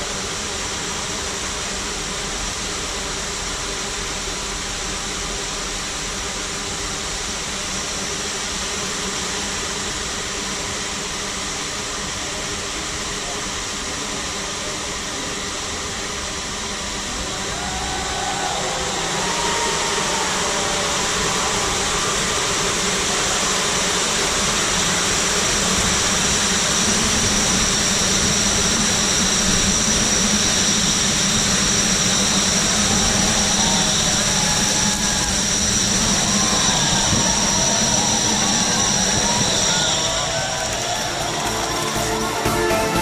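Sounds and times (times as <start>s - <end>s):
drone propellers buzzing: 0.0s - 43.0s
high whine: 0.0s - 43.0s.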